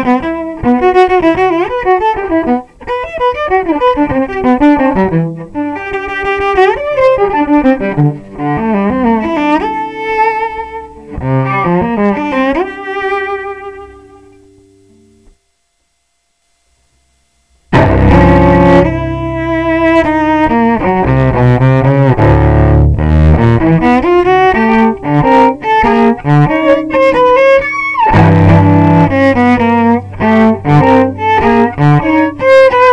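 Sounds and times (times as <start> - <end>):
bowed cello: 0.0 - 14.5, 17.8 - 32.9.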